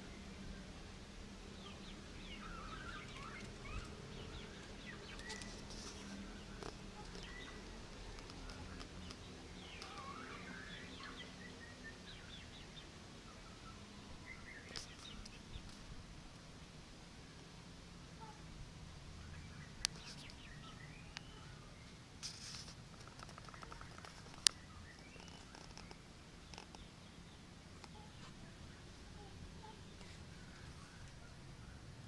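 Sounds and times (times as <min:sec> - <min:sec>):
small birds chirping: 0:00.0 - 0:16.0, 0:18.1 - 0:32.0
low steady hum: 0:00.0 - 0:32.0.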